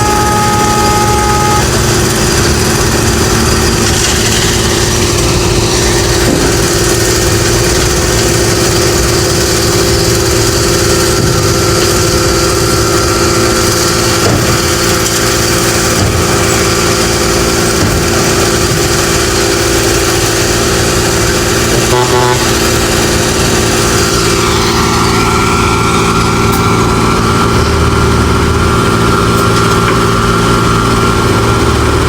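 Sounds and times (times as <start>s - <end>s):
heavy engine running: 0.0s - 32.0s.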